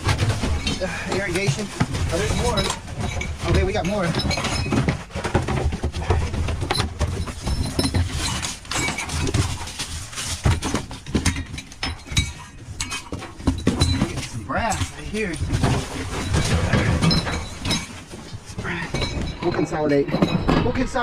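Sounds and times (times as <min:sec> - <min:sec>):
metal scrap clinking and clattering: 0:00.0 - 0:21.0.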